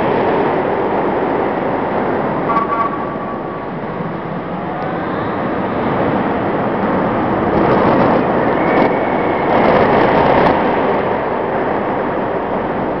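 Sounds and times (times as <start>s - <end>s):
amusement park hall noise: 0.0s - 13.0s.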